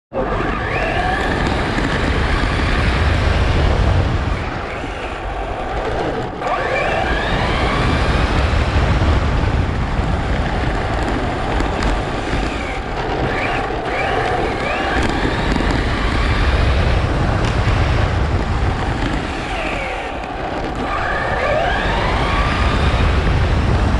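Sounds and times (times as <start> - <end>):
wind noise: 0.1 - 23.9
electric motor whining: 0.2 - 5.8, 6.4 - 23.9.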